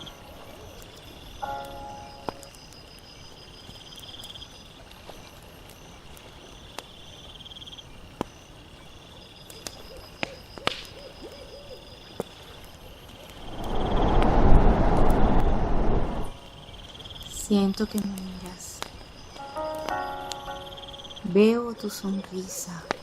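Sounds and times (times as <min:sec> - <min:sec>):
campfire crackling and popping: 0:00.0 - 0:11.2, 0:11.9 - 0:23.0
night insects trilling: 0:00.0 - 0:14.1, 0:16.3 - 0:23.0.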